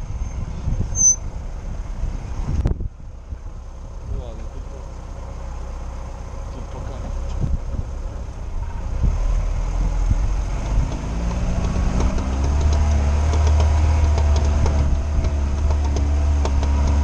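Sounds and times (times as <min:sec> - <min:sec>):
car engine from inside cabin: 0:00.1 - 0:17.0.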